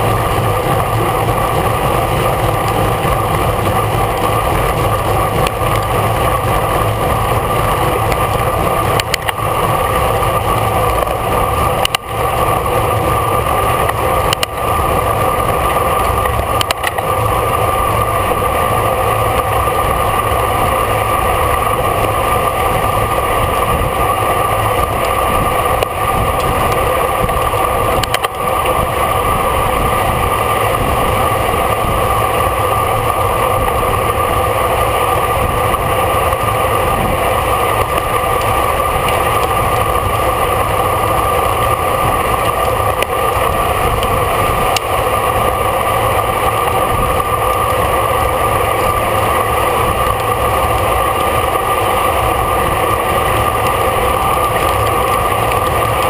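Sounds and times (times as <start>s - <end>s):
constant hum: 0.0s - 56.0s
wind and road rush: 0.0s - 56.0s.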